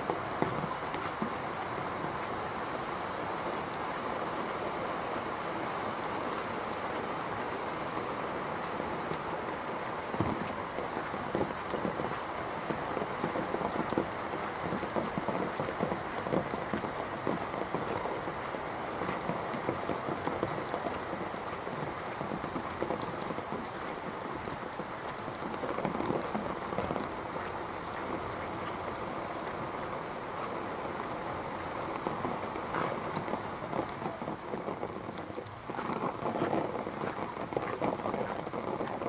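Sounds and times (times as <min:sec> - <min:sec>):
rain falling on paving and trees: 0:00.0 - 0:39.0.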